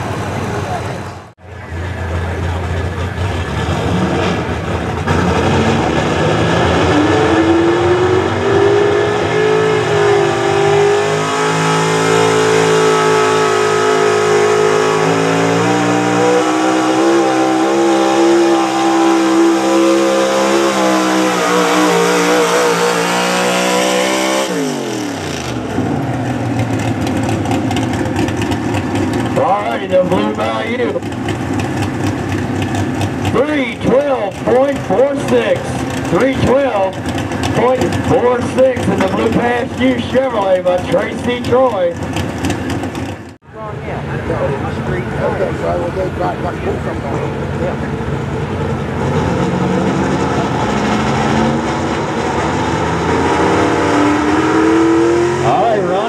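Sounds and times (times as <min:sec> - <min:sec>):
truck engine at full throttle: 0:00.0 - 0:56.0.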